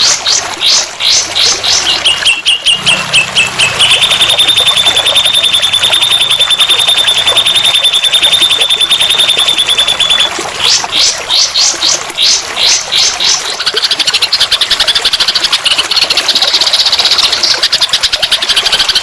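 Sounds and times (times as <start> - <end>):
songbird singing a trill: 0.6 - 19.0.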